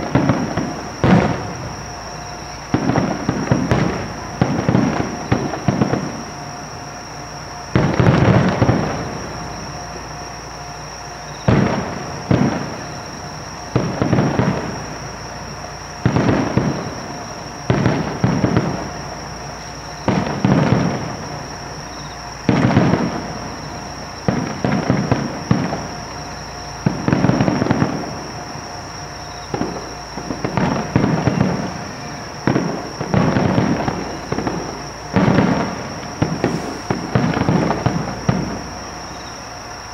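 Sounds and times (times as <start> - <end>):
fireworks shells booming: 0.0 - 39.9.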